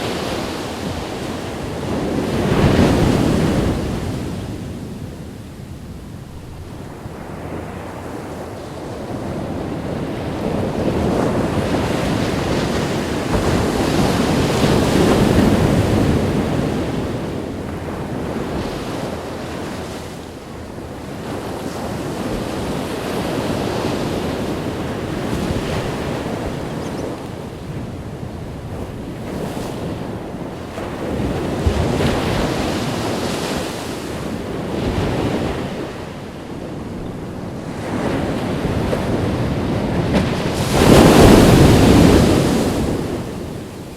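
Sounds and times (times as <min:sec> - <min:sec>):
ocean waves breaking: 0:00.0 - 0:43.9
wind buffeting microphone: 0:00.0 - 0:43.9.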